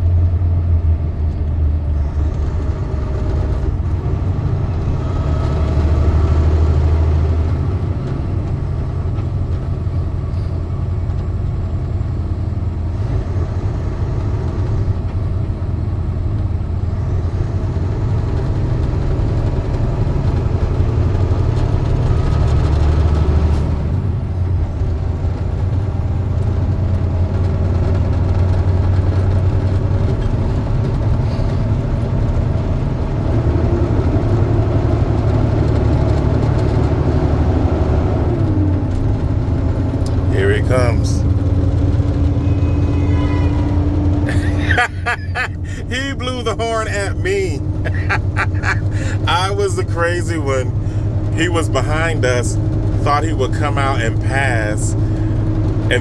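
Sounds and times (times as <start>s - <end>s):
road noise: 0.0s - 56.0s
truck engine running: 0.0s - 56.0s.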